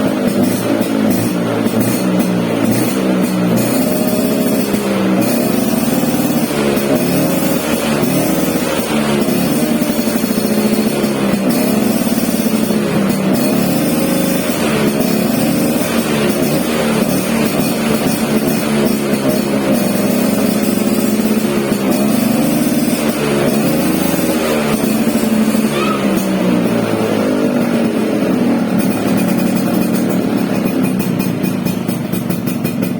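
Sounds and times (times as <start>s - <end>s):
engine revving: 0.0s - 32.9s.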